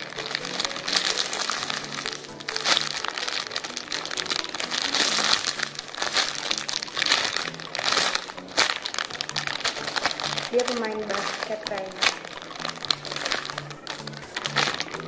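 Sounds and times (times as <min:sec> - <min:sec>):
background music: 0:00.0 - 0:15.0
plastic packaging crinkling: 0:00.0 - 0:15.0.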